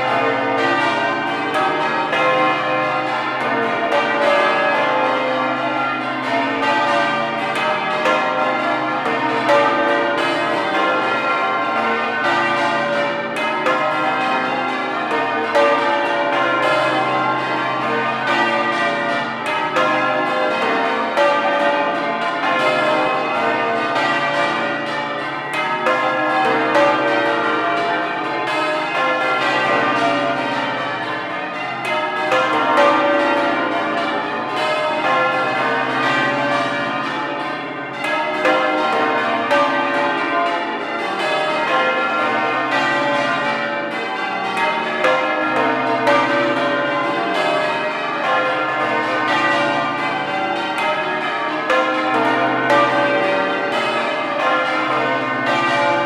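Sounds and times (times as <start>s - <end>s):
church bells ringing changes: 0.0s - 56.0s.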